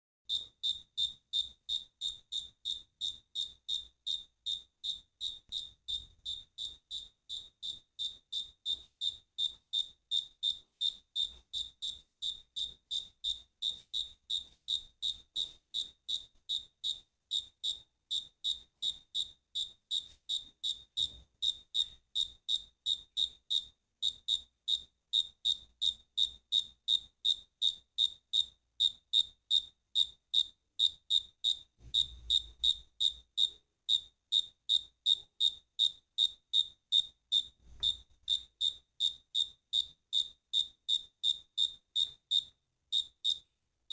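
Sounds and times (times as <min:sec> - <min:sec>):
cricket chirping: 0:00.3 - 0:43.5.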